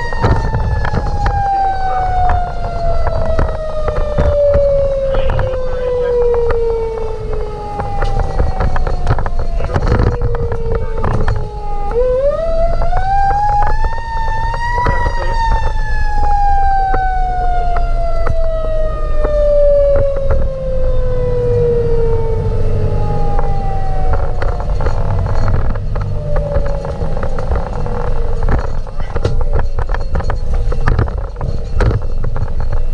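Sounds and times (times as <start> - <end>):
fire engine siren winding: 0.0 - 32.9
truck engine and road rumble: 0.0 - 32.9.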